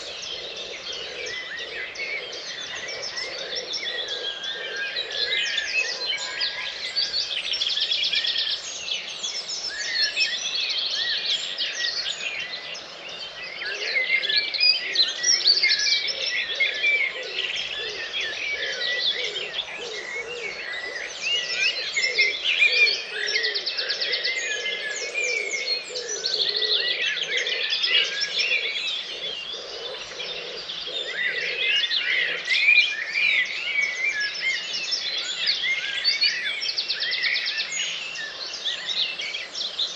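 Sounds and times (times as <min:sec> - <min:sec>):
birds singing in chorus: 0:00.0 - 0:39.9.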